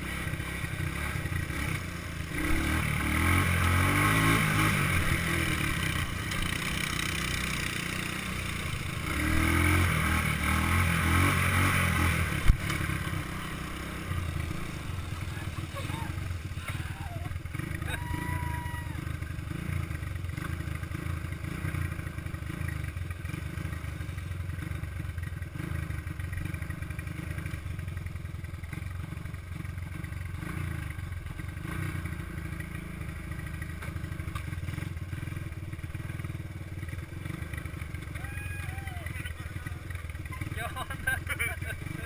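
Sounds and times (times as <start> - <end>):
single-cylinder engine running: 0.0 - 42.0
vehicle rattling: 0.1 - 42.0.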